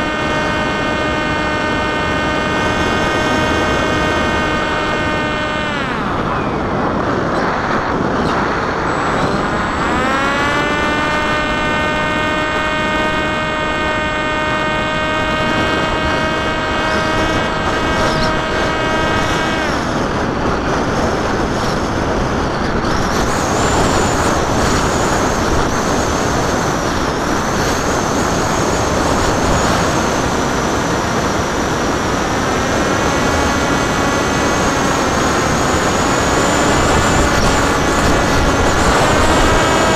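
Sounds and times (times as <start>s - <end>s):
electric propeller motor whining: 0.0s - 39.9s
wind rushing past microphone: 0.0s - 39.9s.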